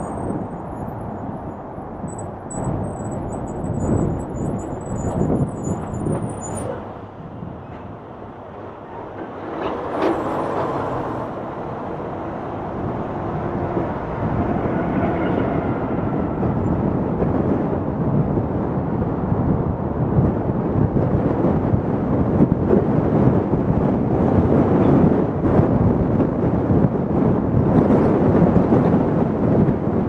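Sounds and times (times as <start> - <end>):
car driving in city traffic: 0.0 - 30.0.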